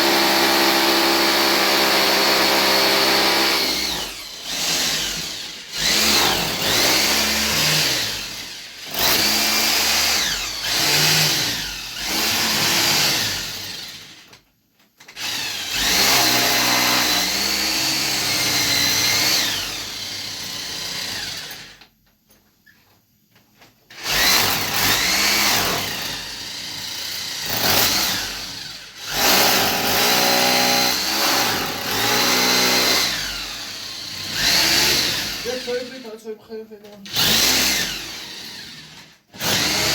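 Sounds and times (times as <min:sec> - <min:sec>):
electric drill running: 0:00.0 - 0:14.2, 0:15.2 - 0:21.8, 0:23.9 - 0:36.2, 0:37.0 - 0:39.9.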